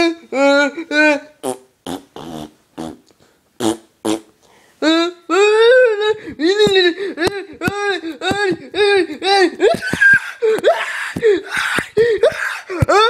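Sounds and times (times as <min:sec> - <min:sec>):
person making silly voice noises: 0:00.0 - 0:13.0.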